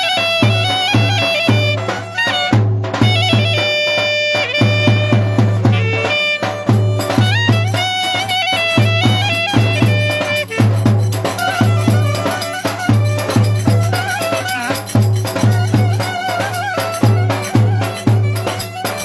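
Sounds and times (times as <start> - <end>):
folk dance music: 0.0 - 19.0
heavy drum beat: 0.0 - 19.0.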